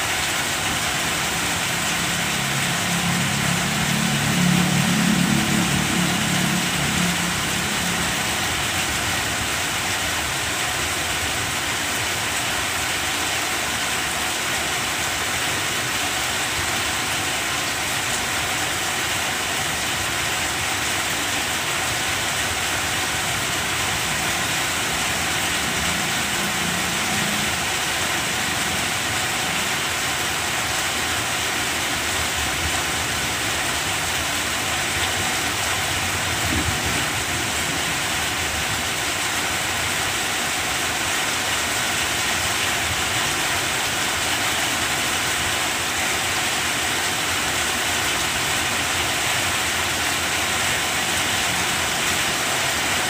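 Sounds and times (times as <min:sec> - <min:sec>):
rain on leaves: 0:00.0 - 0:53.0.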